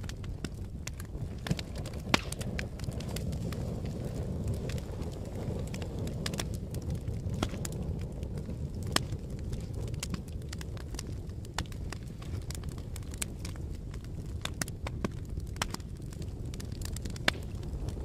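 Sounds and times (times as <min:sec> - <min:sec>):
fire crackling and popping: 0:00.0 - 0:18.0
wood fire rumbling: 0:00.0 - 0:18.0.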